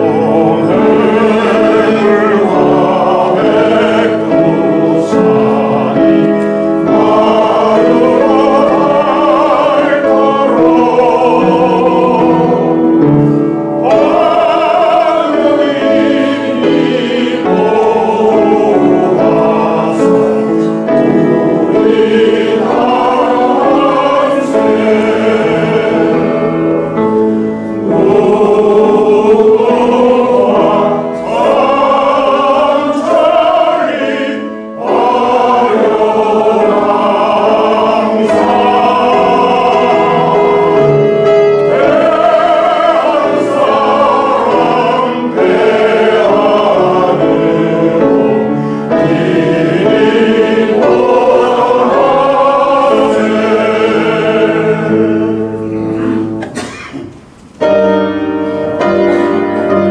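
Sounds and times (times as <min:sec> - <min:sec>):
crowd singing an anthem: 0:00.0 - 0:56.9
piano accompaniment: 0:00.0 - 0:59.9.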